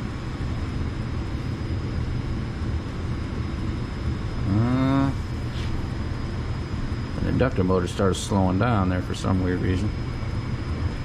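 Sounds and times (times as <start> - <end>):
furnace motor humming: 0.0 - 11.0.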